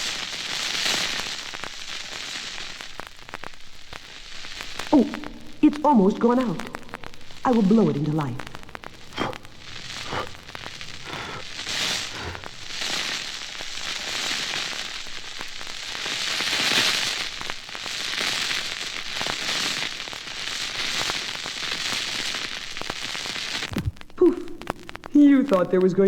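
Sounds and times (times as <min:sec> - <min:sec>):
fuse sputtering and crackling: 0:00.0 - 0:26.0.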